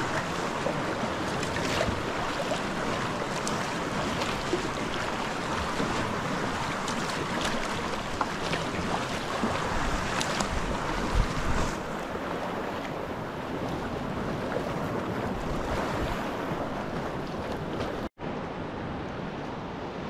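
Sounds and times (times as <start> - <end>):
paddle splashes: 0.0 - 18.1
water slapping against kayak hull: 0.0 - 18.1
wind buffeting microphone: 0.0 - 18.1.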